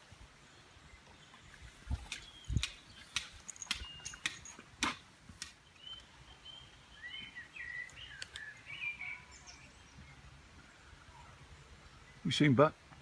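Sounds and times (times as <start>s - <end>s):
faint outdoor background: 0.0s - 13.0s
songbird chirping: 0.0s - 13.0s.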